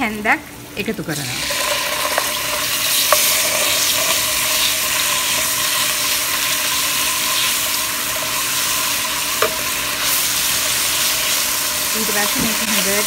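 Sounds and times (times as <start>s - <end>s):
oil sizzling in a wok: 0.0s - 13.0s.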